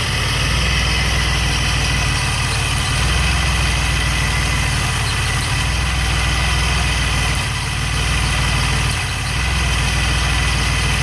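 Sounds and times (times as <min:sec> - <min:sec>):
car engine idling: 0:00.0 - 0:11.0
engine ticking: 0:00.0 - 0:11.0.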